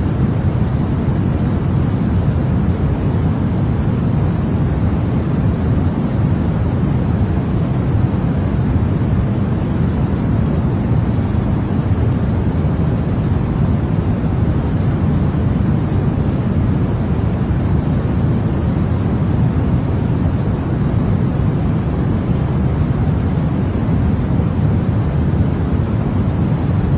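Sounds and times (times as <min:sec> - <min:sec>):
low white noise: 0:00.0 - 0:26.9.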